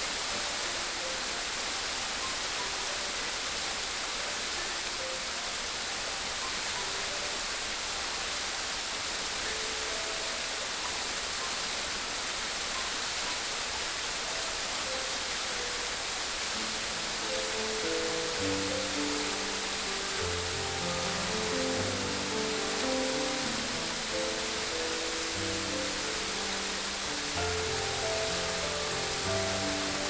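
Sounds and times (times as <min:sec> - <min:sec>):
rushing water: 0:00.0 - 0:30.0
soft background music: 0:00.0 - 0:30.0.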